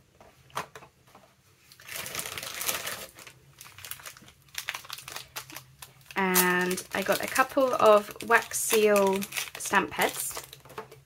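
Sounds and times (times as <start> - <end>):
plastic packaging crinkling: 1.7 - 11.0.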